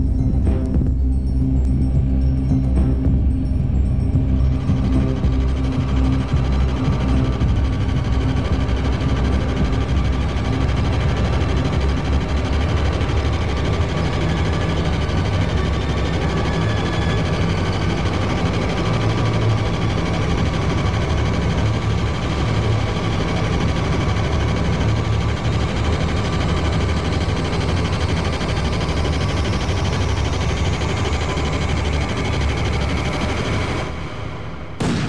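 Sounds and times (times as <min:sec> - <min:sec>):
bass-heavy music with low drone: 0:00.0 - 0:35.0.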